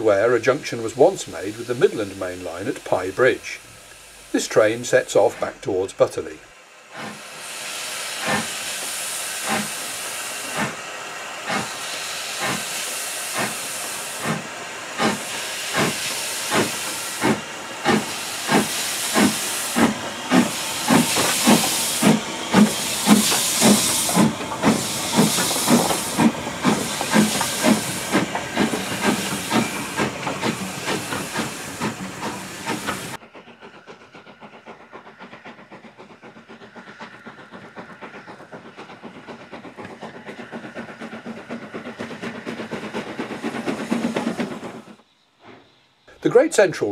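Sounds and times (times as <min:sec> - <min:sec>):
faint steam train running: 0:00.0 - 0:46.9
hiss of steam: 0:00.0 - 0:46.9
steam locomotive chuffing: 0:00.0 - 0:46.9.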